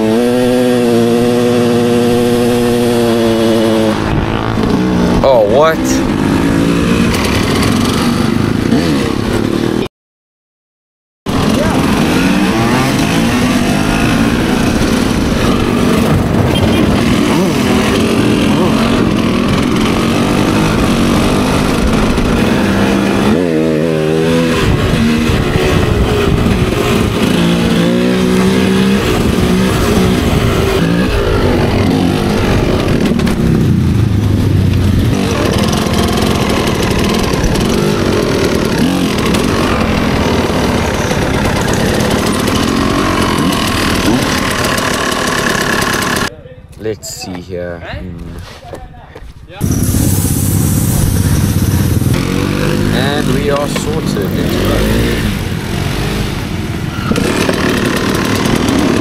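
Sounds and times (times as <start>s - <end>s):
motorcycle engines revving: 0.0s - 9.9s, 11.3s - 48.6s, 49.6s - 59.0s.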